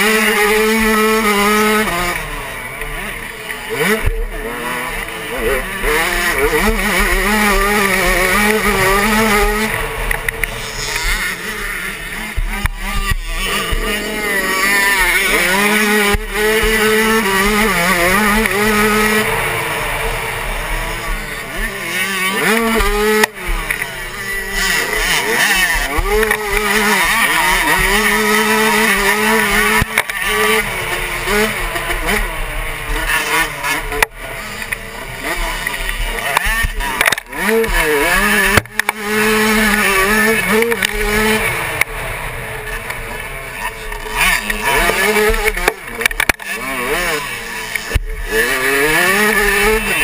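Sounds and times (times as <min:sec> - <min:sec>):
two-stroke motorbike engine revving: 0:00.0 - 0:50.0.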